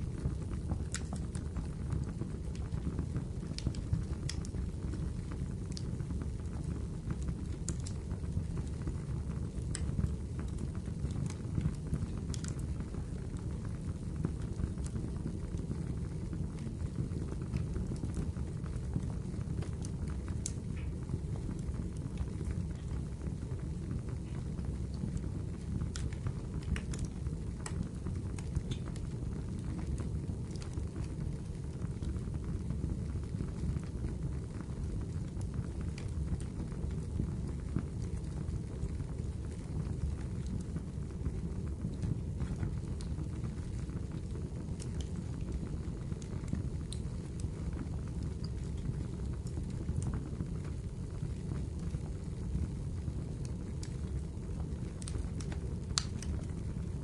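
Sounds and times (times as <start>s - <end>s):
fire crackles and pops: 0.0s - 57.0s
low rush of flames: 0.0s - 57.0s.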